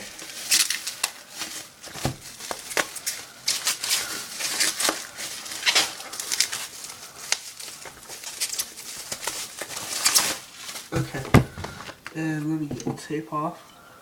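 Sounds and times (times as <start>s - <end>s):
packing rustling and crinkling: 0.0s - 12.9s.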